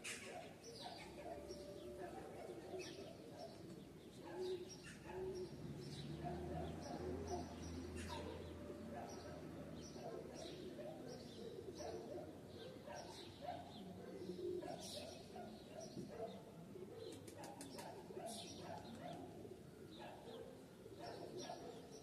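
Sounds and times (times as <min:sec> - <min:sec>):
birds chirping: 0:00.0 - 0:22.0
birds cooing: 0:00.0 - 0:22.0.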